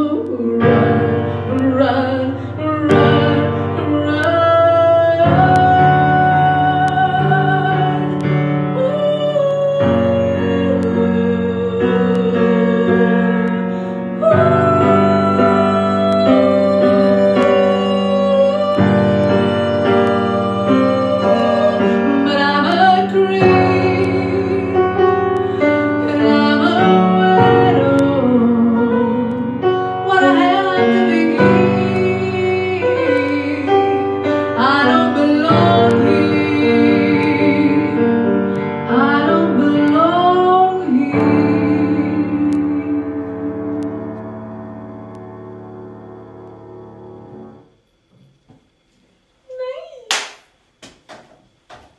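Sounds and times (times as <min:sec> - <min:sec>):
woman singing with vibrato: 0:00.0 - 0:44.1
piano chords: 0:00.0 - 0:48.8.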